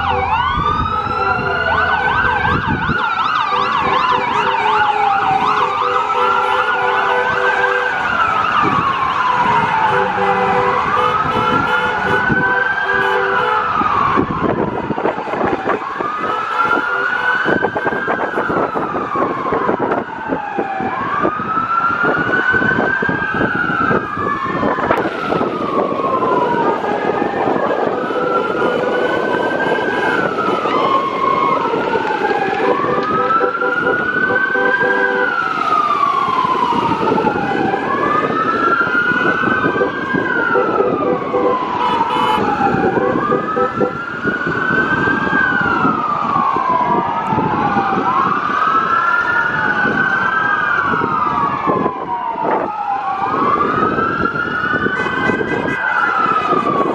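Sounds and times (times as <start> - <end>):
emergency vehicle sirens wailing: 0.0 - 56.9
traffic rumble: 0.0 - 56.9.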